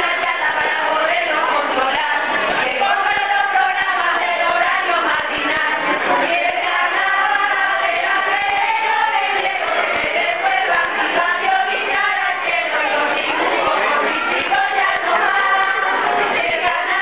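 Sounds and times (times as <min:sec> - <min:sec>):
group of voices singing: 0:00.0 - 0:17.0
faint clicks: 0:00.1 - 0:05.7, 0:06.3 - 0:15.9.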